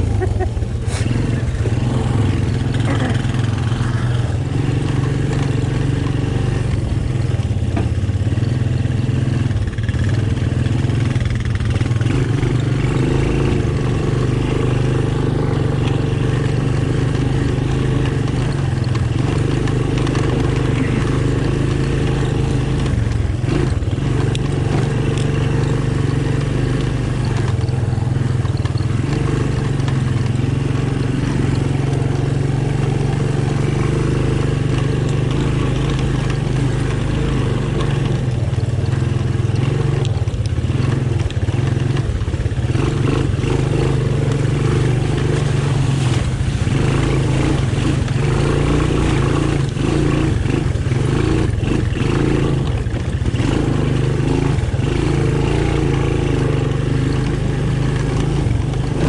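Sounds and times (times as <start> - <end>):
single-cylinder engine running: 0.0 - 59.0.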